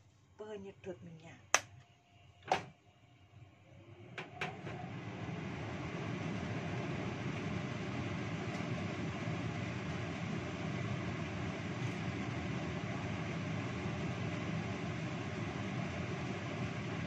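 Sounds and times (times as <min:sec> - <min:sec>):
extractor fan drone: 0:03.0 - 0:17.0.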